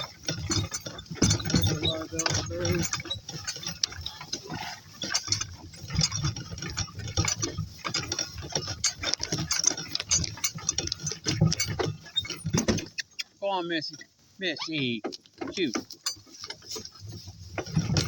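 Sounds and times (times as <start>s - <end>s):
cart rattling over rough ground: 0.0s - 18.0s.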